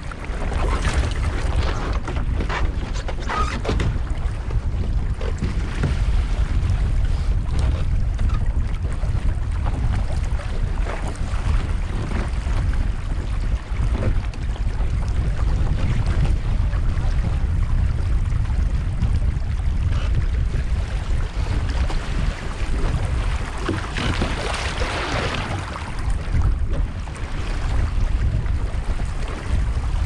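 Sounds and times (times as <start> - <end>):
water splashing against hull: 0.0 - 30.0
wind buffeting microphone: 0.0 - 30.0.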